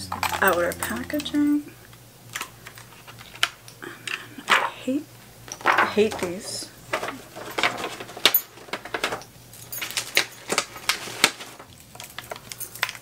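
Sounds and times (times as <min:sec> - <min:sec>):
packaging clicks and crinkles: 0:00.0 - 0:04.2, 0:05.5 - 0:13.0.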